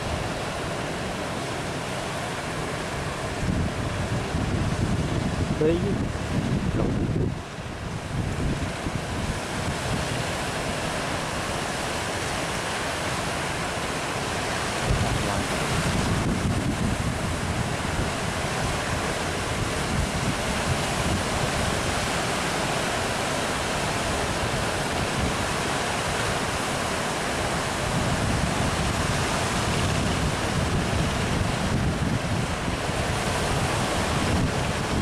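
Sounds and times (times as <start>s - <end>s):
ocean surf breaking: 0.0s - 35.0s
wind buffeting microphone: 2.8s - 11.5s, 14.2s - 35.0s.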